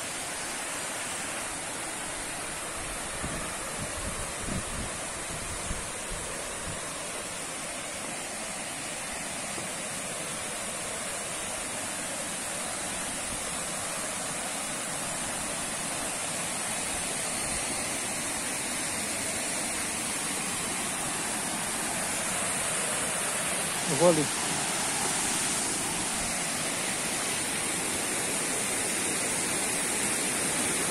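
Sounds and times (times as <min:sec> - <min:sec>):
waterfall and river rushing over rocks: 0:00.0 - 0:30.9.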